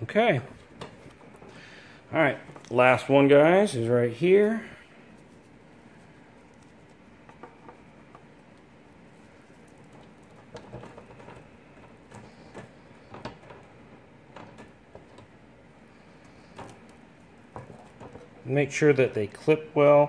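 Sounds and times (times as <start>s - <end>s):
cables rustling: 0.0s - 20.0s.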